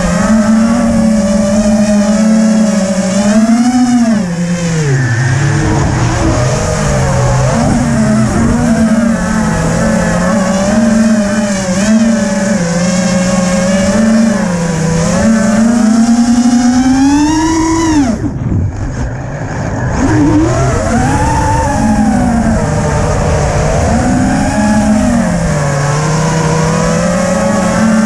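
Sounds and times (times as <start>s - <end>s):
quadcopter motors buzzing: 0.0s - 28.0s.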